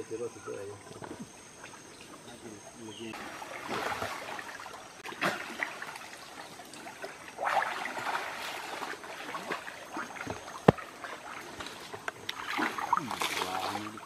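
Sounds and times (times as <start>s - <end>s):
water splashing and sloshing: 0.6s - 14.0s.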